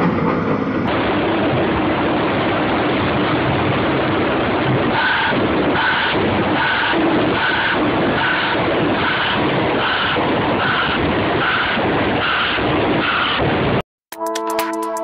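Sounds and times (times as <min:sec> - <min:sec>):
heavy machinery engines: 0:00.0 - 0:13.5.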